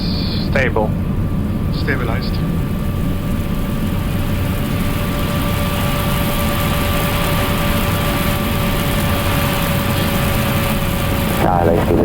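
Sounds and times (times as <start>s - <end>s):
rush of airflow and engines: 0.0s - 12.0s
thin steady whine: 0.0s - 12.0s.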